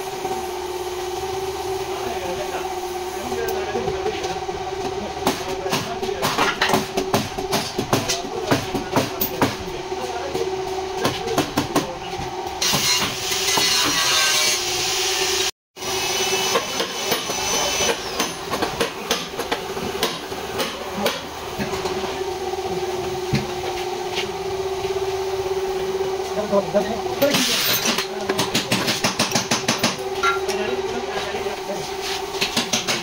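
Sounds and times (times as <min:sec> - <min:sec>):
steady machine hum: 0:00.0 - 0:16.5, 0:17.1 - 0:33.0.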